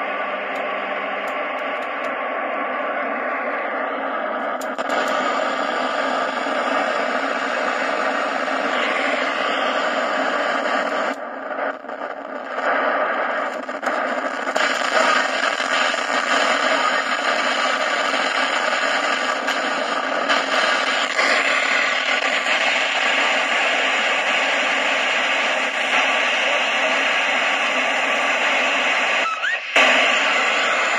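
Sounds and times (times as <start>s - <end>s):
radio receiver static: 0.0s - 30.9s.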